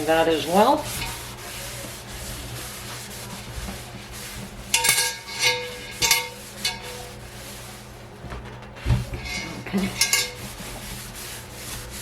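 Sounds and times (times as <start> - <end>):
cloth rubbing cast iron: 0.0 - 12.0.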